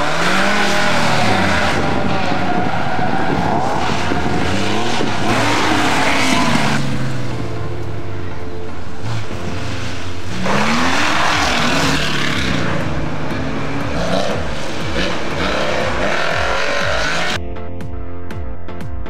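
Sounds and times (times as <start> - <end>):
rally cars passing at speed: 0.0 - 17.4
music: 0.0 - 19.0.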